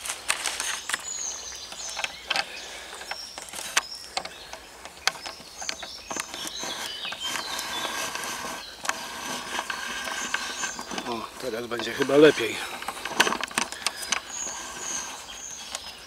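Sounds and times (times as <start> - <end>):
birds singing: 0.6 - 16.0.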